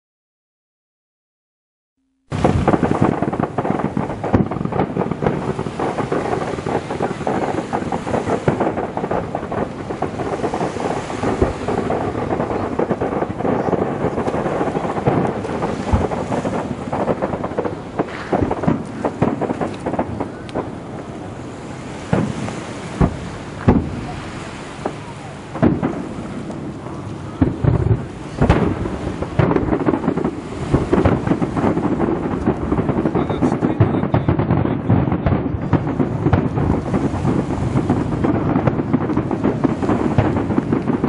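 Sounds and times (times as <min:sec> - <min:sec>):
fireworks booming and crackling: 0:02.2 - 0:41.0.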